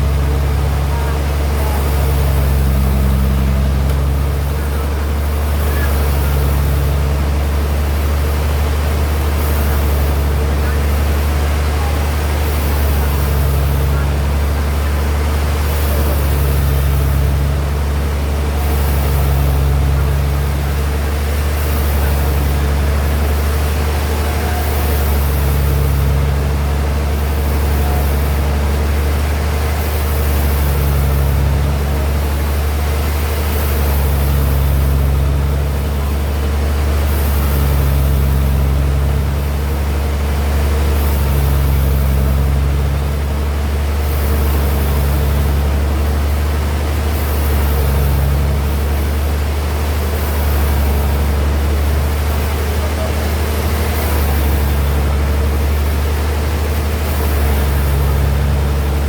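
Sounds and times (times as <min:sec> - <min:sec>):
bandsaw machinery humming: 0:00.0 - 0:59.0.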